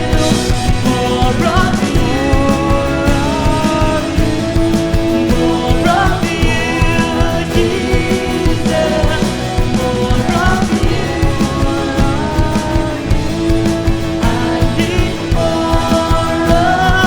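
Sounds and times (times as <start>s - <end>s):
drum kit: 0.0s - 17.0s
guitar: 0.0s - 17.0s
person singing: 0.0s - 17.0s.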